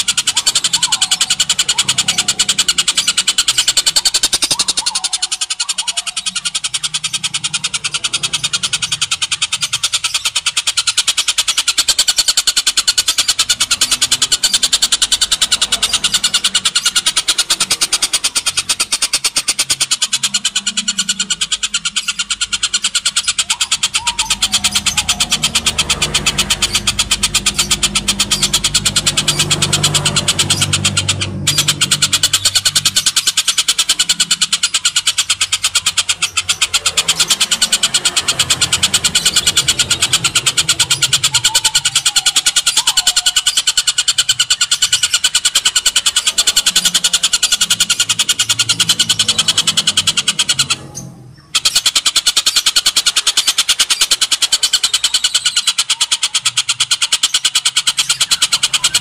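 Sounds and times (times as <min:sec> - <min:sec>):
low hum: 0:00.0 - 0:51.9
bird chattering call: 0:00.0 - 0:59.0.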